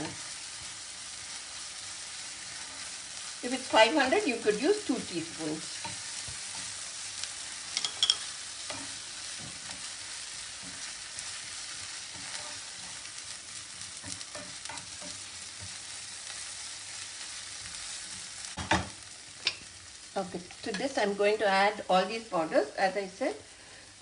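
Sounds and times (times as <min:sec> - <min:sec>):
spoon stirring and scraping pan: 0:00.0 - 0:21.0
onions sizzling in hot oil: 0:00.0 - 0:24.0.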